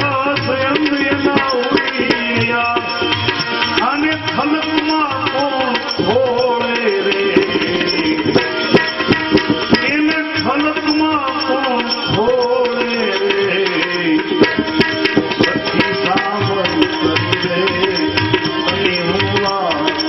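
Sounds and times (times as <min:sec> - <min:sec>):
tabla playing a steady rhythm: 0:00.0 - 0:20.0.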